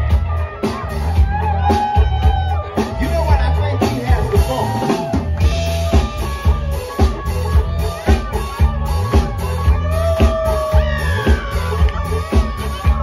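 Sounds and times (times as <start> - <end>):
live band playing up-tempo song: 0.0 - 13.0.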